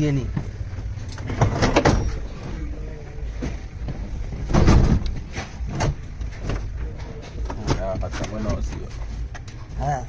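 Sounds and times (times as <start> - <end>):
car engine knocks and scrapes: 0.3 - 2.5, 3.3 - 9.8.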